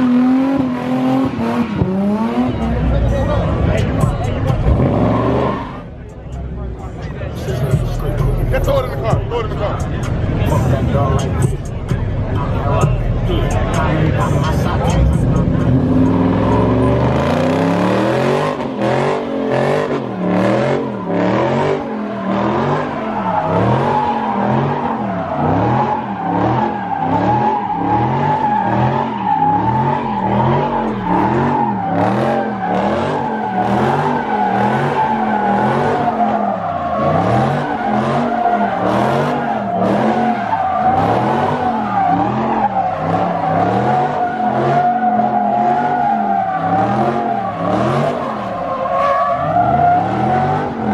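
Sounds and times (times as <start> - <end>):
car engine: 0.0 - 50.9
tire squealing: 0.0 - 50.9.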